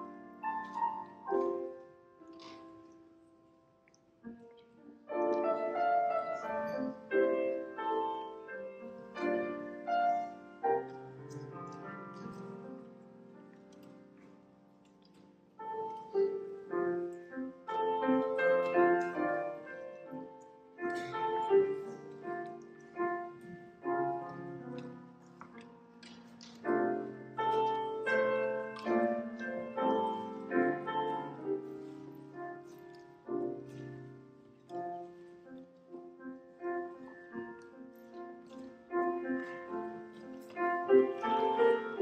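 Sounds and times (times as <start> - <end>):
grand piano playing classical piece: 0.0 - 42.0.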